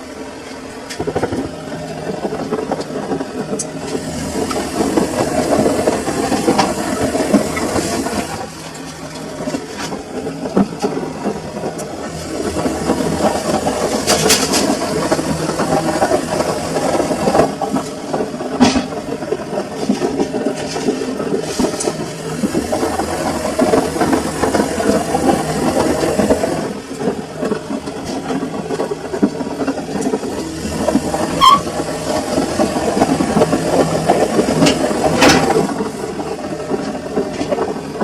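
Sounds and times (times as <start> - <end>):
washing machine churning: 0.0 - 38.0.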